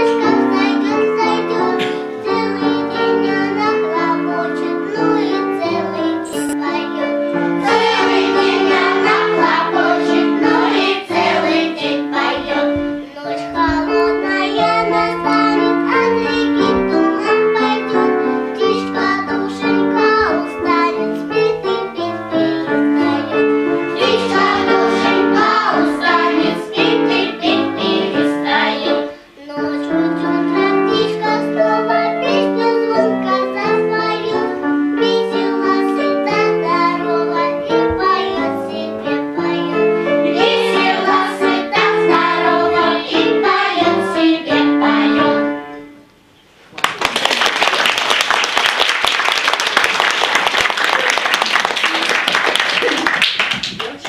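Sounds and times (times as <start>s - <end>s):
children's choir singing: 0.0s - 46.0s.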